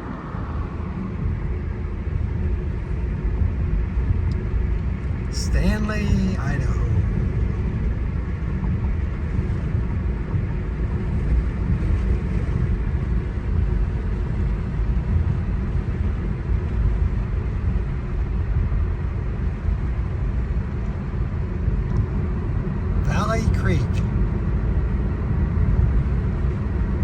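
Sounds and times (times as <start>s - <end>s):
car driving rumble: 0.0s - 26.8s.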